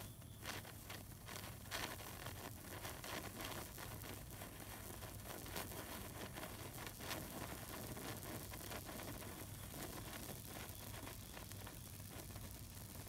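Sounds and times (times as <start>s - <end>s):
sparkler crackling: 0.0s - 13.0s.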